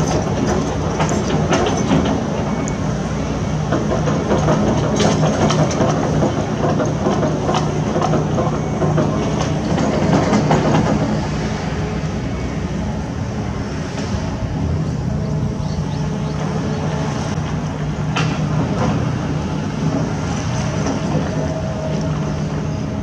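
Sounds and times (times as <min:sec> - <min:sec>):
diesel engine hum: 0:00.0 - 0:23.0.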